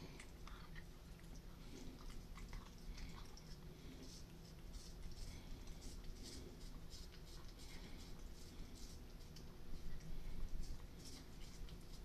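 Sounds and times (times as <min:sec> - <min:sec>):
cat chewing corncob: 0:00.0 - 0:12.0.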